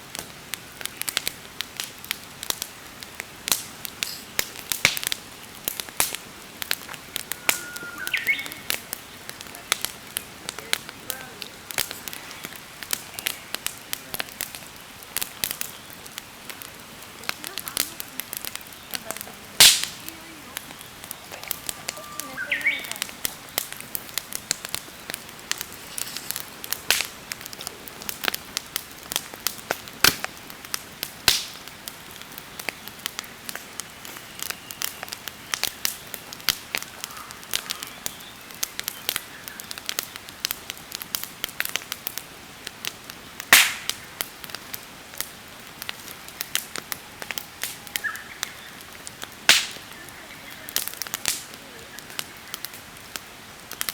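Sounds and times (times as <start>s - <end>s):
campfire crackling: 0.0s - 53.9s
loud fire pops: 0.0s - 53.9s.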